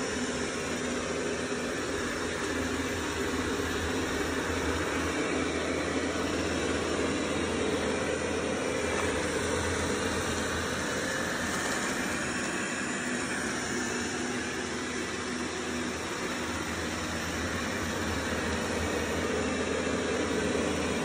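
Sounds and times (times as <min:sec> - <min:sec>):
robot vacuum cleaner whirring: 0:00.0 - 0:21.0.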